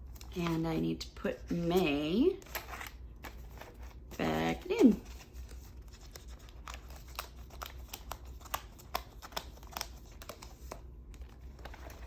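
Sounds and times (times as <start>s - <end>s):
paper pages rustling: 1.4s - 12.0s.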